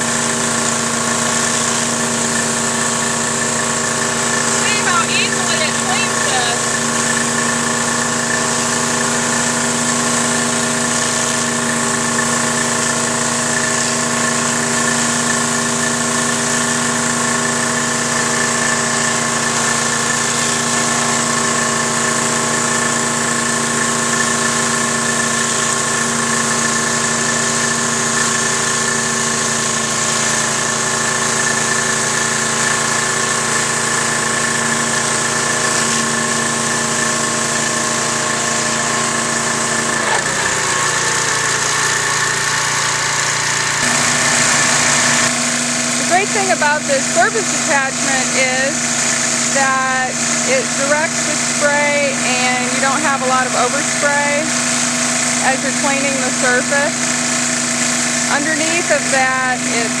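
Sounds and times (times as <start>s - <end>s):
pressure washer engine hum: 0.0s - 60.0s
water spraying hiss: 0.1s - 60.0s.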